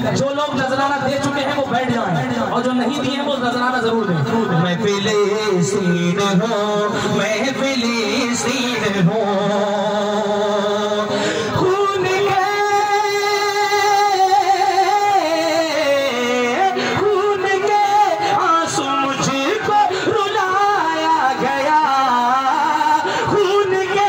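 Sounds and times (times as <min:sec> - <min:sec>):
person singing devotional song: 0:03.6 - 0:24.0.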